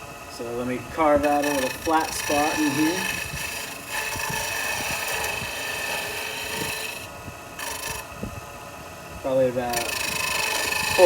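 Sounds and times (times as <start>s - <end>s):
chisel scraping spinning wood: 0.0s - 8.4s, 9.2s - 11.0s
lathe motor whine: 0.0s - 11.0s.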